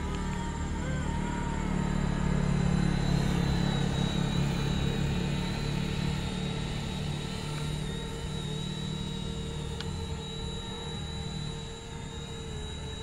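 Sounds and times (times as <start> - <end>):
drone propeller hum: 0.0 - 13.0
thin high whine: 0.0 - 13.0.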